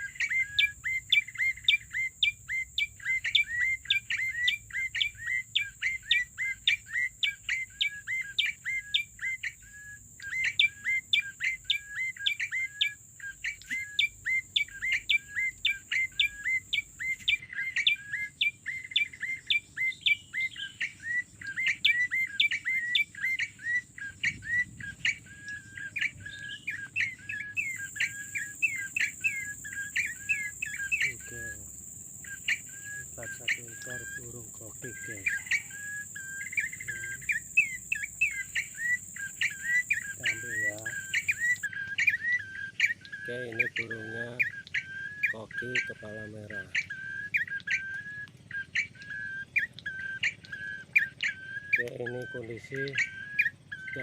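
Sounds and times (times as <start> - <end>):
rapid high bird chirps: 0.0 - 54.0.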